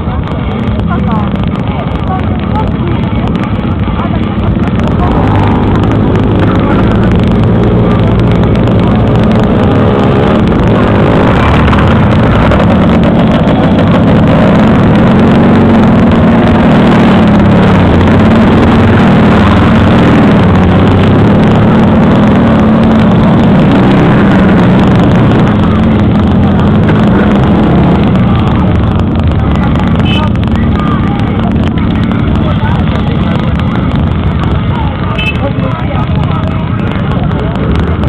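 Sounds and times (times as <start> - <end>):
motorcycle and quad bike engines: 0.0 - 38.0.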